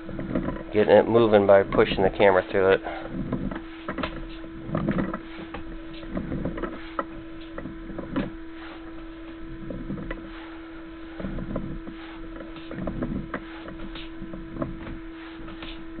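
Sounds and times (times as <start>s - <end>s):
cable knocking and rattling in pipe: 0.0s - 2.2s, 3.0s - 10.4s, 11.2s - 15.8s
steady electrical hum: 0.0s - 16.0s.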